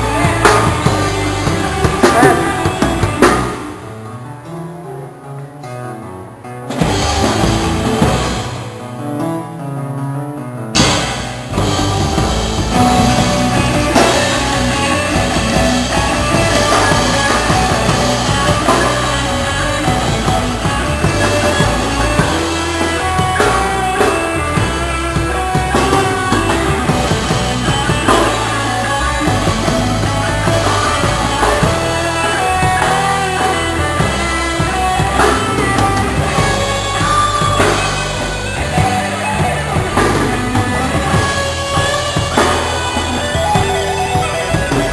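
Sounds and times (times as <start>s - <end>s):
live band playing: 0.0s - 10.0s, 10.6s - 44.9s.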